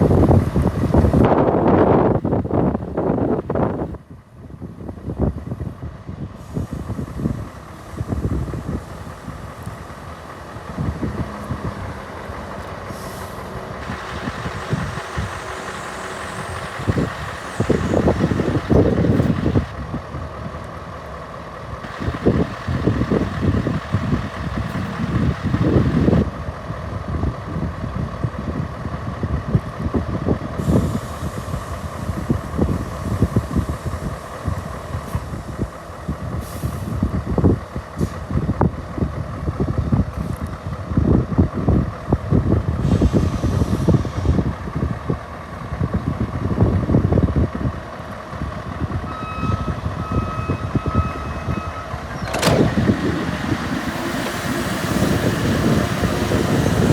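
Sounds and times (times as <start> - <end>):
truck diesel engine droning: 0.0 - 56.9.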